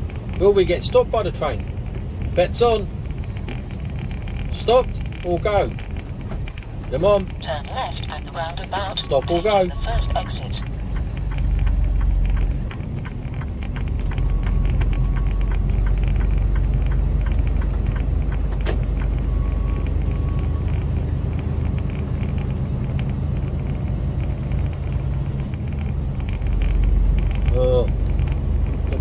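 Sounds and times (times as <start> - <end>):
lorry diesel engine humming: 0.0 - 29.0
tyres on wet road: 0.0 - 29.0.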